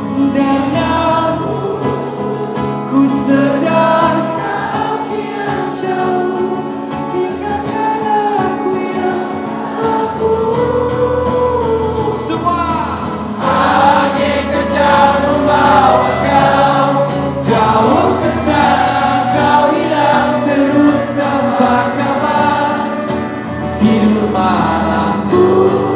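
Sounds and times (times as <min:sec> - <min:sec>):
acoustic guitar: 0:00.0 - 0:25.9
live band with singing: 0:00.0 - 0:25.9.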